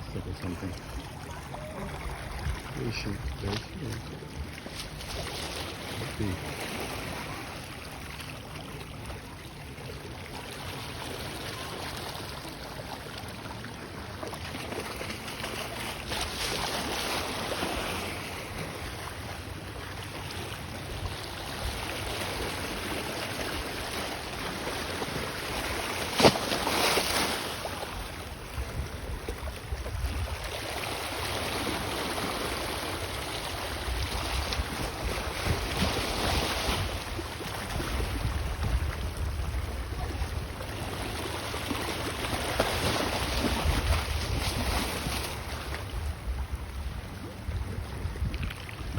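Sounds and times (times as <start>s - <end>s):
waves washing over rocks: 0.0s - 9.6s, 14.9s - 46.7s.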